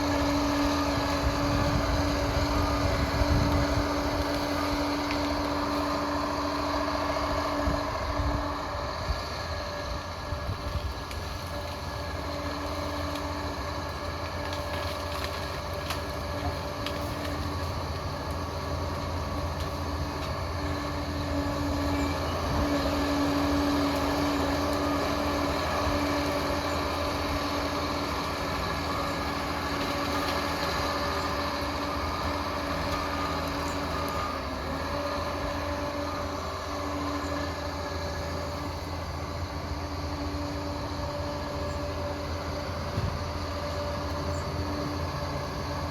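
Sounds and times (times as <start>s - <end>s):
diesel engine rumbling: 0.0s - 45.9s.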